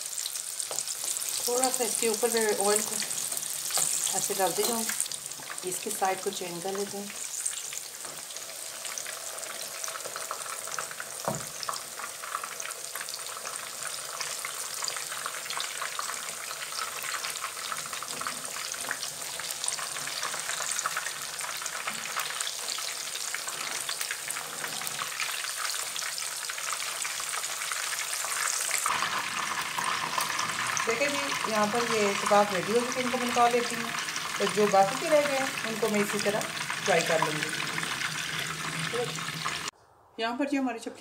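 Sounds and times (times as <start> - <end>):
kebabs sizzling in hot oil: 0.0 - 39.7.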